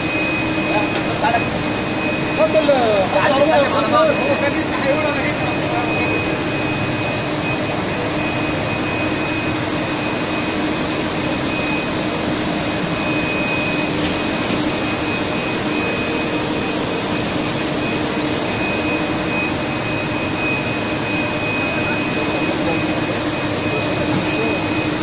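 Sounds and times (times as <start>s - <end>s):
bottling line machinery din: 0.0s - 25.0s
low machine hum: 0.0s - 25.0s
thin high whine: 0.0s - 25.0s.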